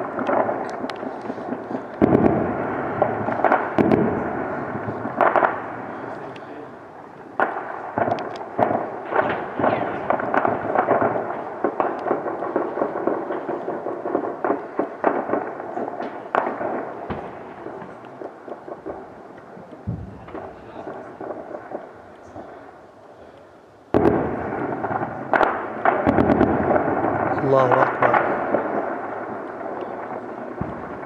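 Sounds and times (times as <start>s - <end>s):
gunshots with echo: 0.0s - 6.6s, 7.3s - 22.6s, 23.9s - 31.0s.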